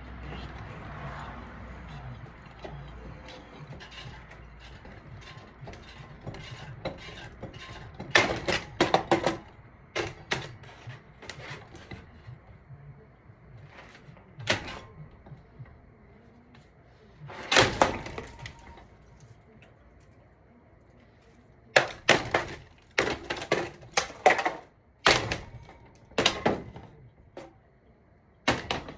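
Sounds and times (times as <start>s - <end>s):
ceiling fan being broken apart: 0.1s - 12.4s, 13.6s - 15.4s, 17.2s - 20.2s, 21.7s - 27.6s, 28.4s - 28.9s.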